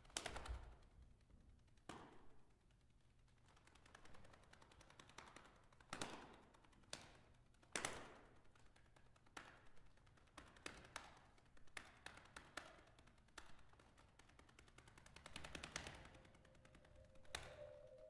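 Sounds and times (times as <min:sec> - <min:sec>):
percussion clicks and taps: 0:01.2 - 0:18.0.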